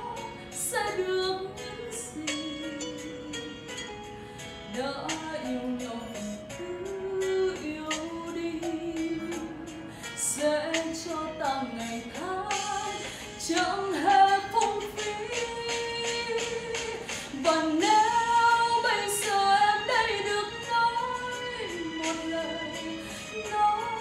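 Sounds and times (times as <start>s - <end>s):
woman singing: 0.0s - 4.0s, 4.6s - 24.0s.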